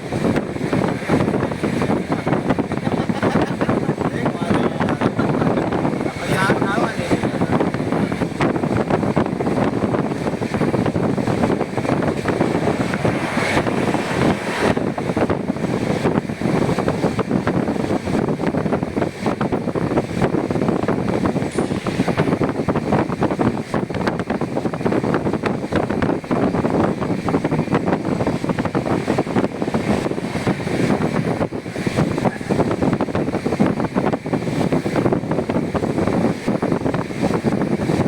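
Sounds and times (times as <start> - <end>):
train wheels rumbling on rails: 0.0 - 38.0
wind on microphone: 0.0 - 38.0.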